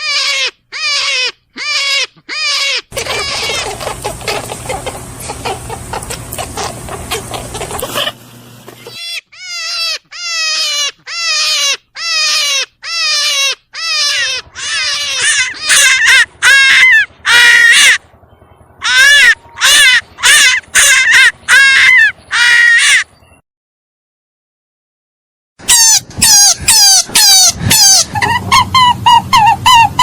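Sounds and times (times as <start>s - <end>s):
animal shrill crying calls: 0.0s - 18.0s, 18.8s - 23.1s, 25.6s - 30.0s.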